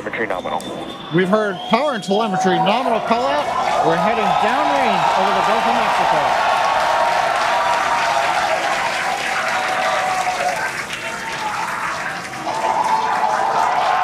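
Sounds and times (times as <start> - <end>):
shouting voices: 1.1 - 14.0
crowd applauding: 1.5 - 14.0.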